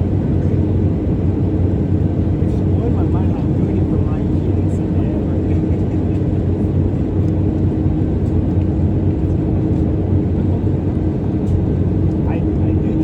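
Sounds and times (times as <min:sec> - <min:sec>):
airliner cabin engine rumble: 0:00.0 - 0:13.0
constant low hum: 0:00.0 - 0:13.0.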